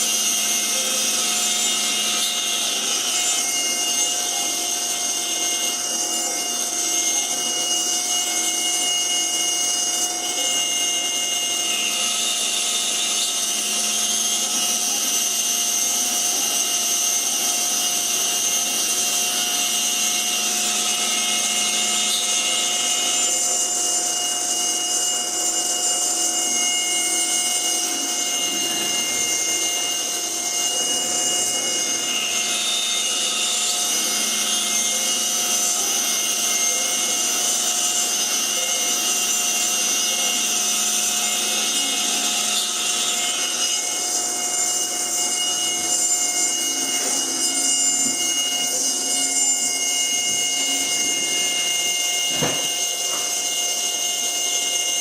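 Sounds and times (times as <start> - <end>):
bit cutting wood: 0.0 - 55.0
router spindle whine: 0.0 - 55.0.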